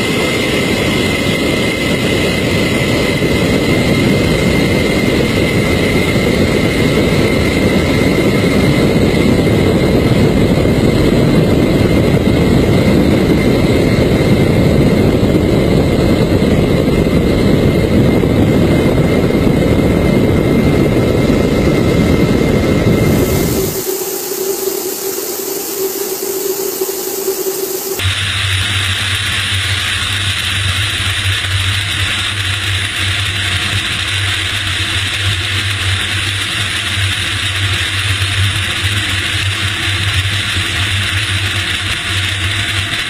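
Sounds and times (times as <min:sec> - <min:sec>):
high engine whine: 0:00.0 - 0:43.0
jet airliner taking off: 0:00.0 - 0:43.0.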